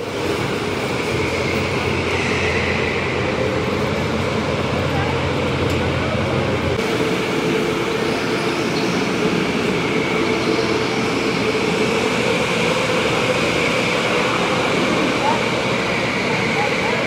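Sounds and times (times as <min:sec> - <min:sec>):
high whine: 0:00.0 - 0:17.0.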